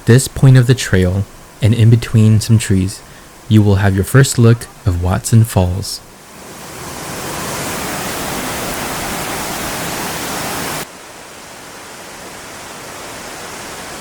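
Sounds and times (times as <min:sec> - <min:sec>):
waterfall rushing: 0:00.2 - 0:14.0.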